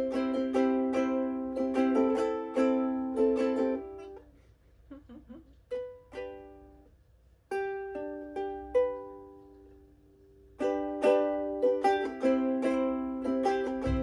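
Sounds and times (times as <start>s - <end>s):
ukulele chords: 0.0s - 4.3s, 5.6s - 14.0s.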